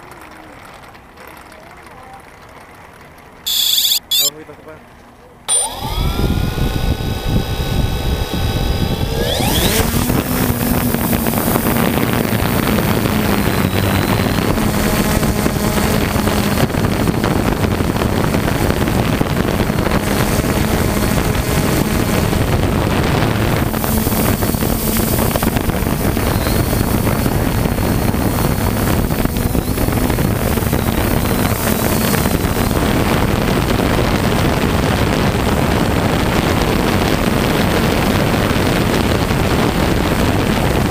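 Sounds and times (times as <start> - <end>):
drone propellers buzzing: 3.5 - 4.3, 5.5 - 40.9
wind rushing on microphone: 5.8 - 40.9.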